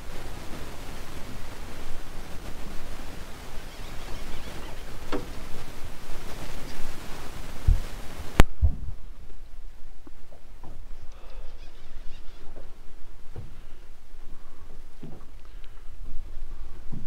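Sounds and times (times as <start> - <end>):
dull low thumps: 0.0 - 11.1, 12.2 - 17.0
wind buffeting microphone: 0.0 - 17.0.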